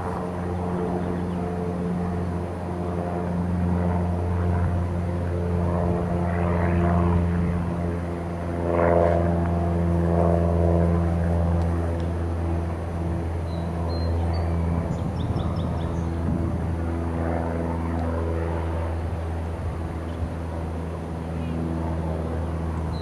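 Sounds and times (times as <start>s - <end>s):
engine drone: 0.0s - 23.0s.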